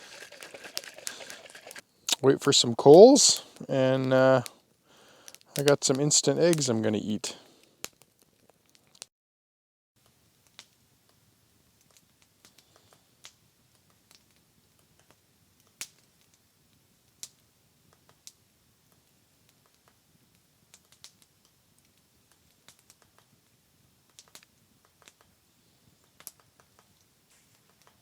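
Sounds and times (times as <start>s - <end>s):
campfire crackling and popping: 0.0s - 9.1s, 10.4s - 28.0s.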